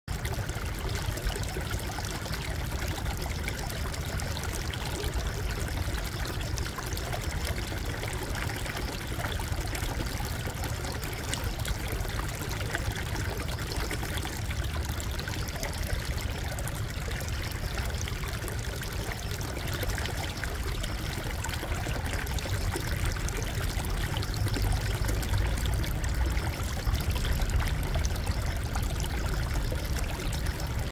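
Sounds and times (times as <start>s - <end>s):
brook trickling over stones: 0.1s - 30.9s.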